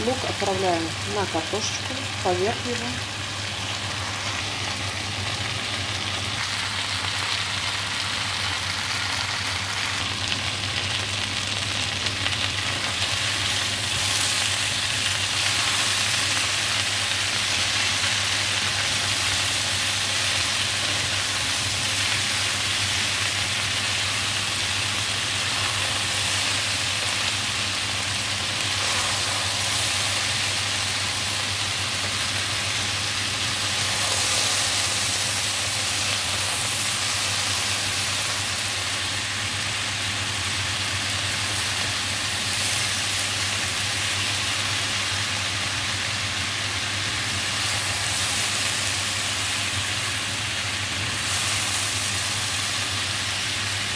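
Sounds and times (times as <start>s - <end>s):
vegetables sizzling in a frying pan: 0.0s - 53.9s.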